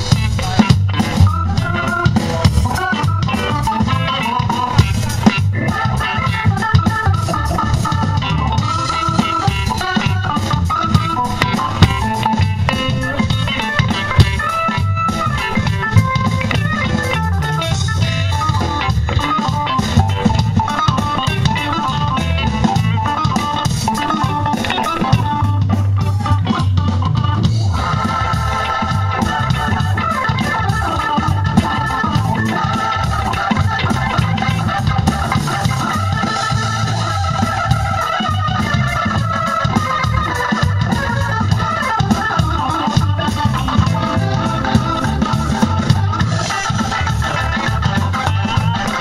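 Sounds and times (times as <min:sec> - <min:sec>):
bass guitar: 0:00.0 - 0:49.0
drum kit: 0:00.0 - 0:49.0
electric guitar: 0:00.0 - 0:49.0
held organ chords: 0:00.0 - 0:49.0.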